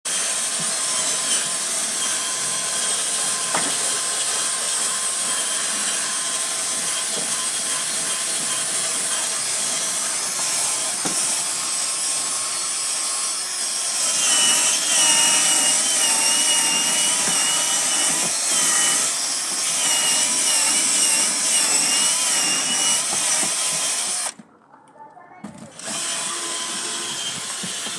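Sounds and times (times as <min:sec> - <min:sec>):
high-pitched electric motor: 0:00.1 - 0:24.4, 0:25.8 - 0:27.9.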